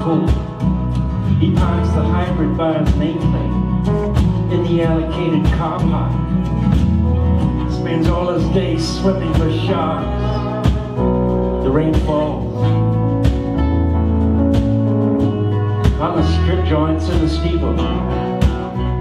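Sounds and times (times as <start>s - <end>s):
folk-country band playing: 0.0s - 19.0s.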